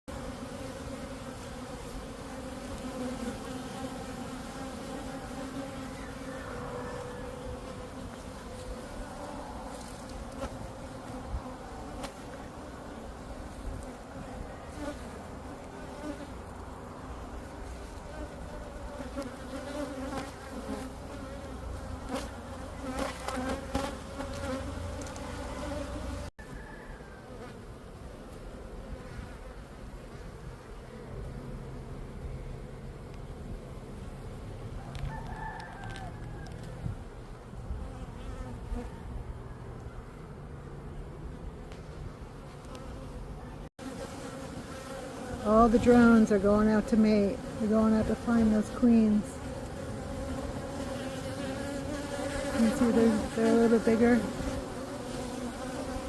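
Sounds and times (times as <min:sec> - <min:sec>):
bees buzzing: 0:00.1 - 0:39.2, 0:40.0 - 0:56.0.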